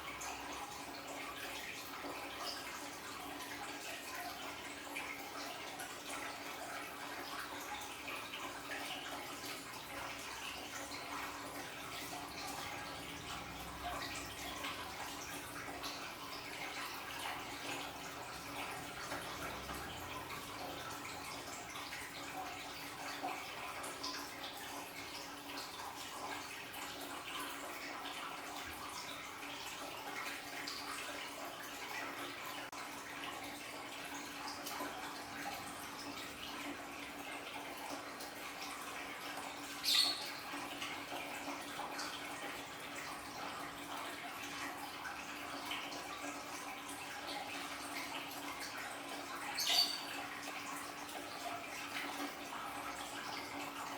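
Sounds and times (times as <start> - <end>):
water trickling and splashing: 0.0 - 53.9.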